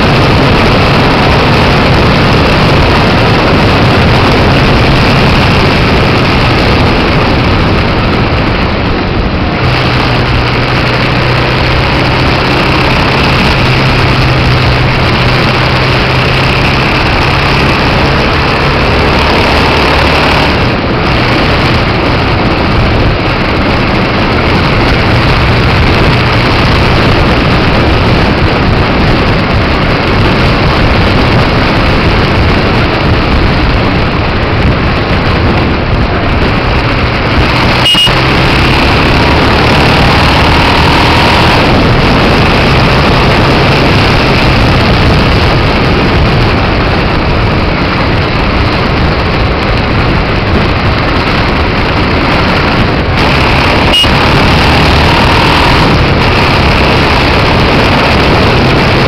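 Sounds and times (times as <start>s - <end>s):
loud rush of noise: 0.0s - 59.0s
motorcycle engine running: 0.0s - 59.0s.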